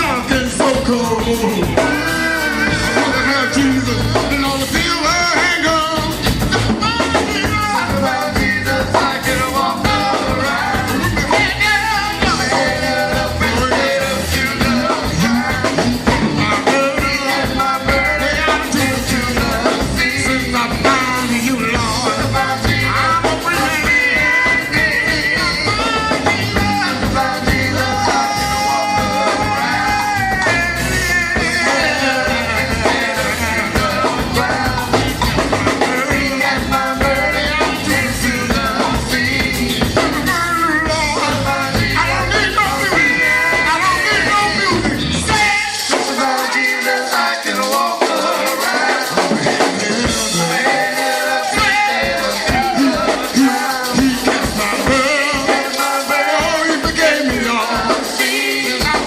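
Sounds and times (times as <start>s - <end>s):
band with bass line: 0.0s - 59.0s
gospel singing: 0.0s - 59.0s.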